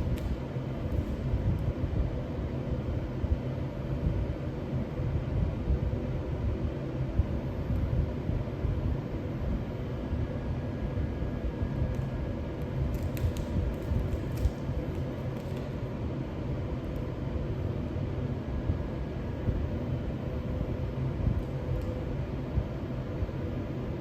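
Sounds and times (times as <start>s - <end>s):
machine humming and rumbling: 0.0s - 24.0s.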